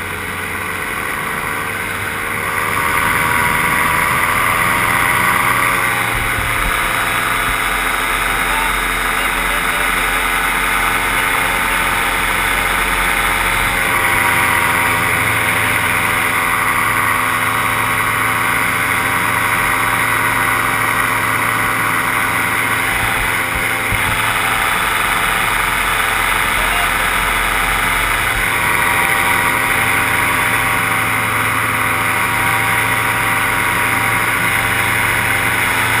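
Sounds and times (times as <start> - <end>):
paramotor engine and propeller: 0.0 - 36.0.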